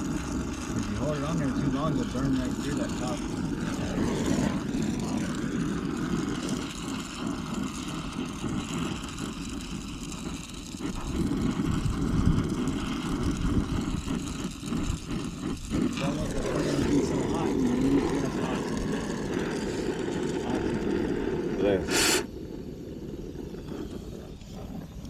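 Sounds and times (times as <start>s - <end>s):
torch flame roaring: 0.0s - 25.0s.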